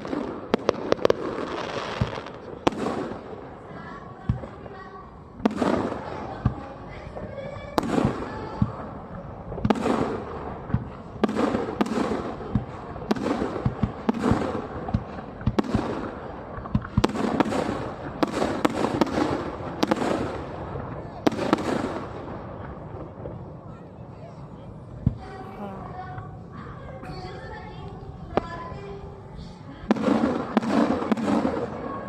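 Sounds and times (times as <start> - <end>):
fireworks bangs with echo: 0.0 - 25.4, 26.1 - 32.0.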